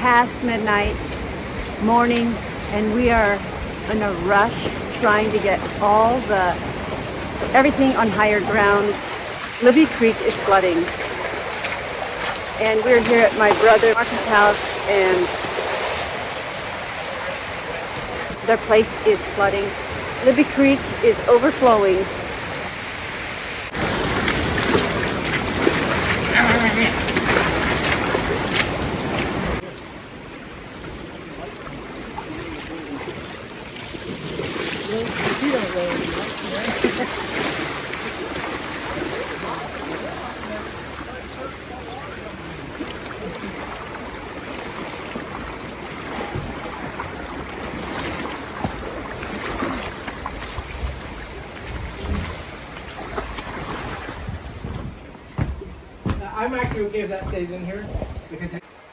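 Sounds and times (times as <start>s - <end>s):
floodwater rushing: 0.0s - 57.5s.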